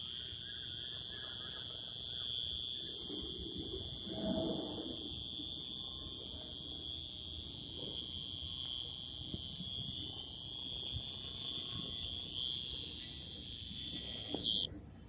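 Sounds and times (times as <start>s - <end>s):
cricket trilling: 0.0s - 14.7s.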